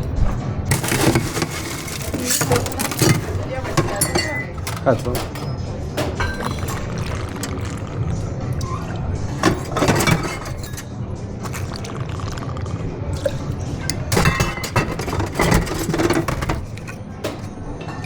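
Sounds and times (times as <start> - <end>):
ice and glassware clinking: 0.7 - 18.0.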